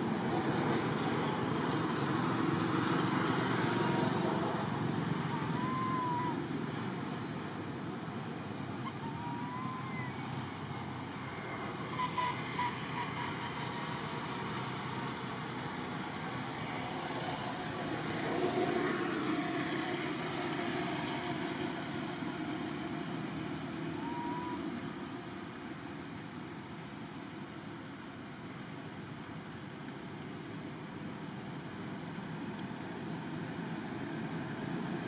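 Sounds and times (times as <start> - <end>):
distant road traffic hum: 0.0 - 35.0.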